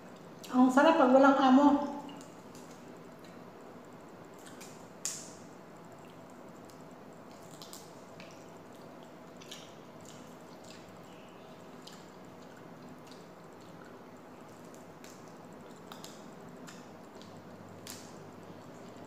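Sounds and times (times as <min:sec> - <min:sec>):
chewing smacks and clicks: 0:02.0 - 0:03.4, 0:04.3 - 0:05.4, 0:06.0 - 0:19.0.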